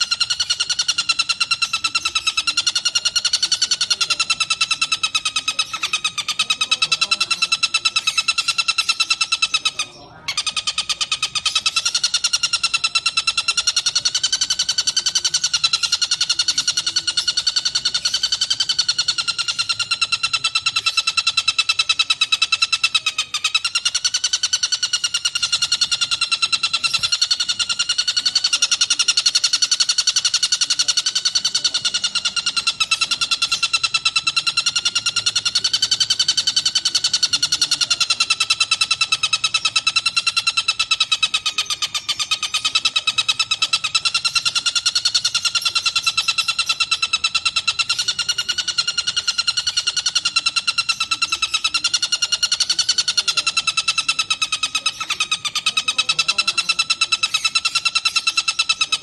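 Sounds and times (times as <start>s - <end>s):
bird trilling fast: 0.0s - 59.0s.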